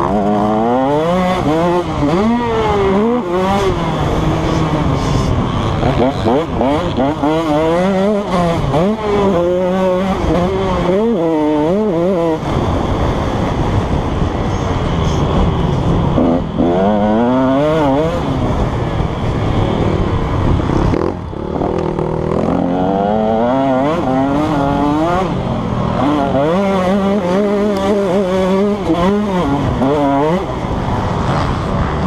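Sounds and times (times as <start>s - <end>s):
motocross bike engine revving: 0.0s - 32.0s
wind noise: 0.0s - 32.0s.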